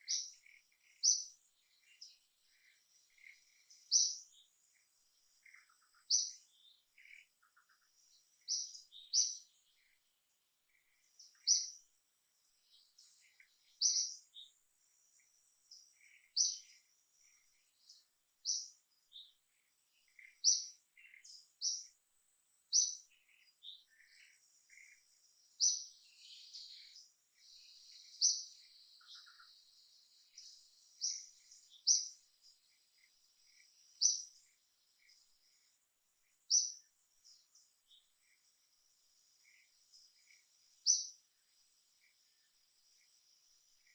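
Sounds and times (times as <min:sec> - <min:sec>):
fainter lower bird chirps: 0:00.0 - 0:43.9.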